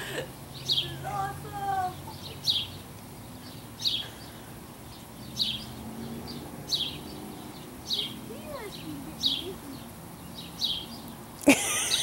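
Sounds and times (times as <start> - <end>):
bird chirping: 0.5 - 12.0.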